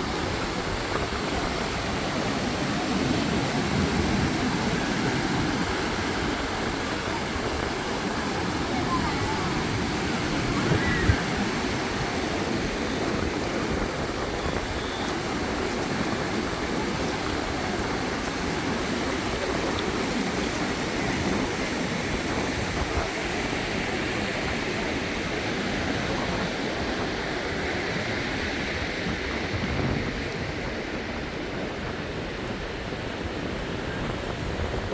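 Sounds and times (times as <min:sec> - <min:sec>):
waves washing onto beach: 0:00.0 - 0:34.9.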